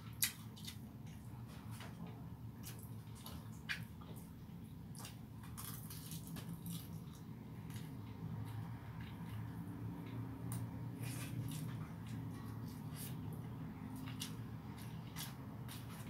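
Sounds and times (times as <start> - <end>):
chewing and wet mouth noises: 0.0 - 16.0.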